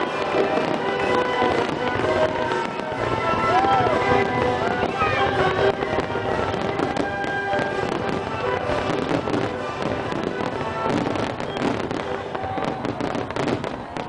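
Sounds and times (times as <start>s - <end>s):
fireworks bursting and crackling: 0.0s - 14.0s
music playing: 0.0s - 14.0s.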